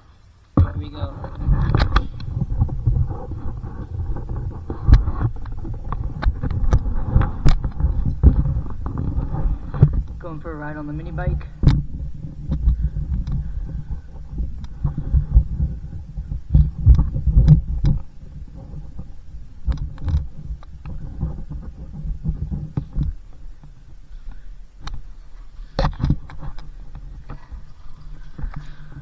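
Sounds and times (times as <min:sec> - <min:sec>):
low rumbles and thumps: 0:00.0 - 0:29.0.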